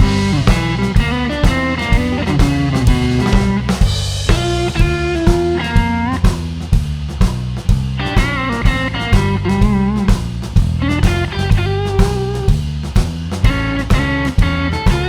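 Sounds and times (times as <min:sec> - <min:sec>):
electric guitar with bent notes: 0:00.0 - 0:06.6, 0:08.0 - 0:12.5, 0:13.4 - 0:15.0
bass: 0:00.0 - 0:15.0
drum kit: 0:00.0 - 0:15.0.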